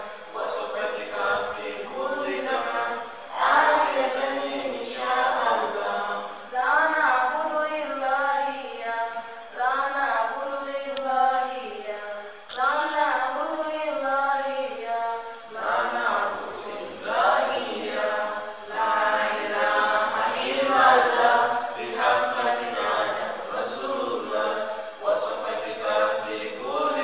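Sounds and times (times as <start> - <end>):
voices chanting a melody: 0.0 - 10.0, 10.6 - 27.0.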